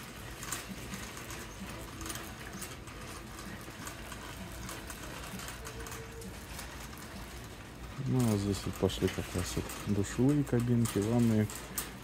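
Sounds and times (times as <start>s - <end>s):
low background hum: 0.0s - 12.0s
shopping cart rattling on concrete: 0.0s - 12.0s.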